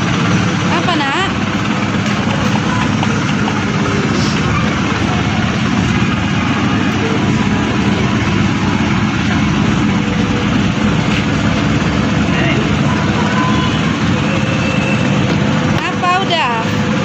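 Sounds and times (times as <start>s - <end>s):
vehicle motor rumble: 0.0s - 17.0s.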